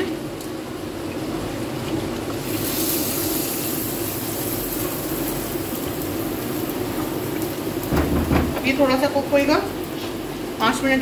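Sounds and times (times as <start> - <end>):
pot simmering with a hiss: 0.0 - 11.0.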